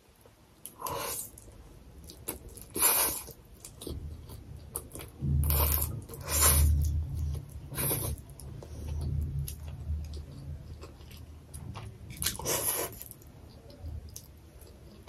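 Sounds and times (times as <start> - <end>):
chewing: 0.6 - 15.0.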